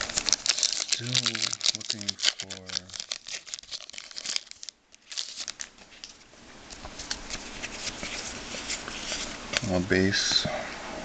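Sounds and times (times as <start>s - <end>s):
trading cards flipped by hand: 0.0s - 9.7s.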